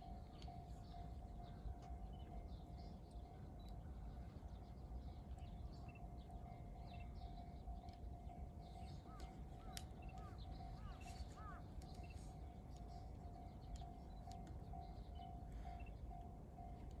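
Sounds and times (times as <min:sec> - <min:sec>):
small birds chirping: 0:00.3 - 0:16.9.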